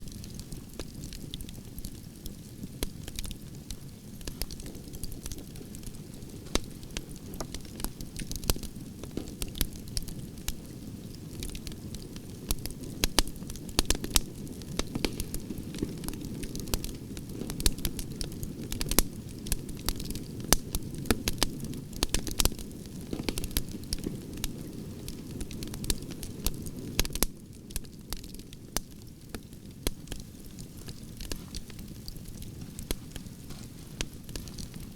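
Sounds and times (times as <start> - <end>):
campfire crackling and popping: 0.0 - 34.9
low rush of flames: 0.1 - 34.9.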